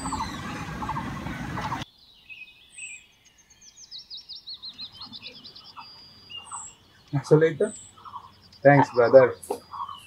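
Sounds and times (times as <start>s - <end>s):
birds chirping: 0.0s - 10.0s
sharp high bird calls: 0.0s - 10.0s.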